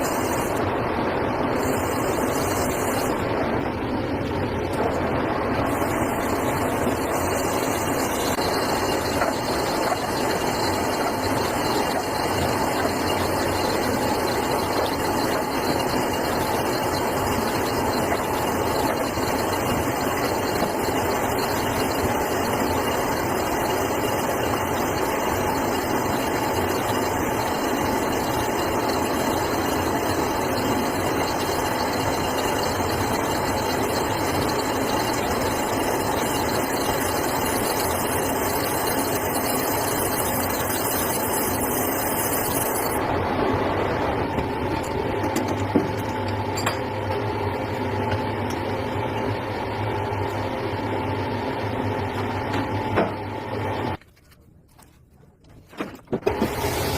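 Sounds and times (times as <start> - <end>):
workshop machine whirring: 0.0 - 54.0, 55.9 - 56.9.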